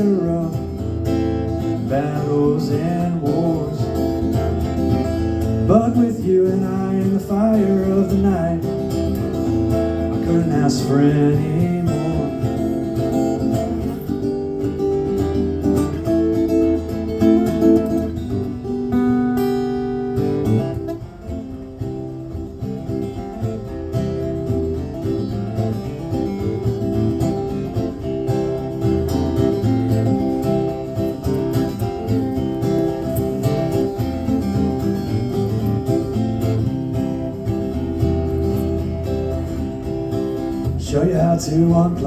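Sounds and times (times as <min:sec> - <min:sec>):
acoustic guitar strumming and picking: 0:00.0 - 0:42.0.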